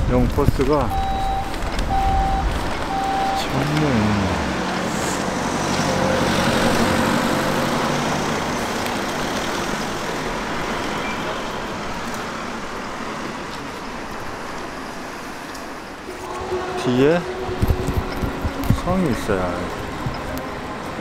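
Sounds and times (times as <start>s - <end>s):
bus engine running: 0.0s - 21.0s
street traffic noise: 0.0s - 21.0s.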